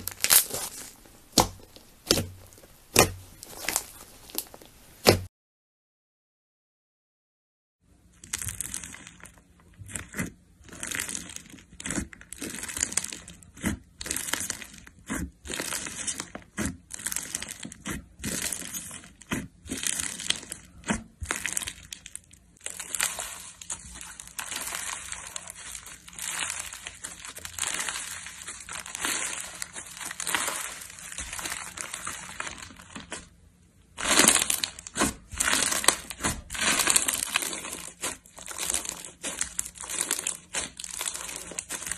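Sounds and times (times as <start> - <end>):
slime squelching: 0.0 - 5.3, 8.1 - 41.9.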